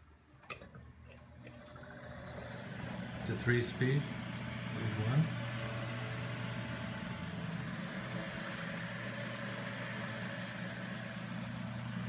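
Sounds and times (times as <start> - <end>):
electric fan motor hum: 0.4 - 12.0
fan blades whooshing: 1.7 - 12.0.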